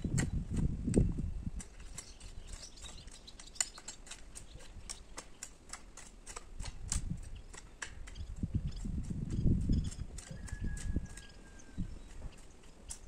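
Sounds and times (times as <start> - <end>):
hoe scraping stony soil: 0.0 - 13.0.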